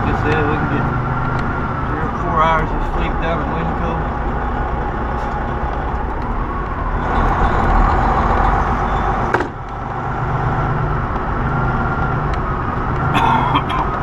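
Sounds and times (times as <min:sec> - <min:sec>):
road noise: 0:00.0 - 0:14.0
truck diesel engine running: 0:00.0 - 0:14.0.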